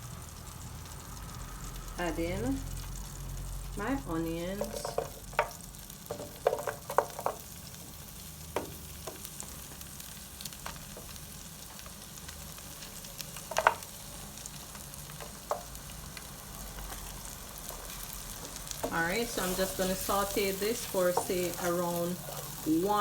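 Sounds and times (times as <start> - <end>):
onion sizzling in butter: 0.0 - 23.0.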